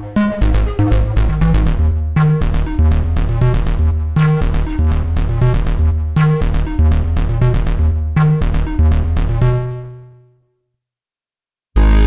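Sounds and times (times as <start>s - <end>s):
sustained low synth bass tone: 0.0s - 9.9s, 11.8s - 12.0s
rhythmic synth bass line: 0.0s - 10.2s, 11.8s - 12.0s.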